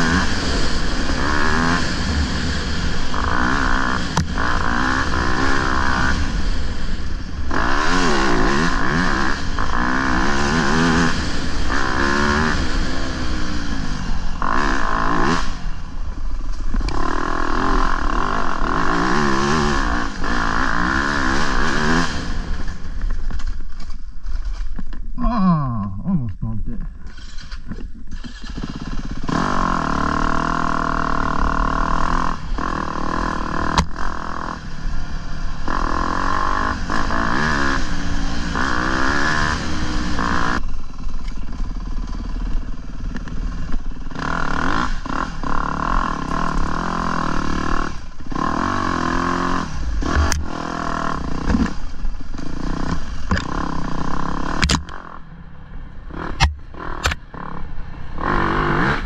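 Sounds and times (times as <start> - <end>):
dirt bike engine revving: 0.0 - 23.2, 25.2 - 55.3, 56.0 - 59.0.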